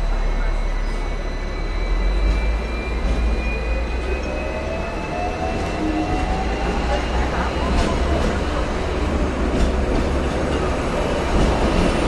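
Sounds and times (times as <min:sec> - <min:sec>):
tram low rumble: 0:00.0 - 0:12.0.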